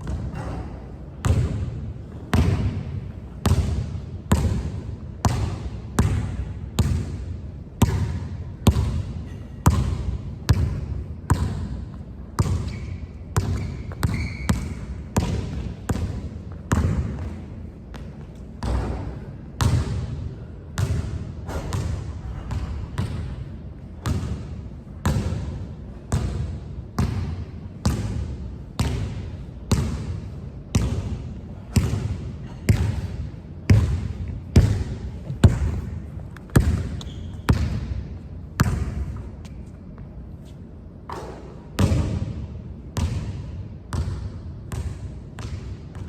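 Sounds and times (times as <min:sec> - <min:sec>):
basketball dribbling on hard court: 0:01.2 - 0:07.2, 0:07.8 - 0:11.8, 0:12.4 - 0:20.2, 0:20.8 - 0:23.4, 0:24.0 - 0:39.2, 0:41.1 - 0:42.4, 0:43.0 - 0:46.0.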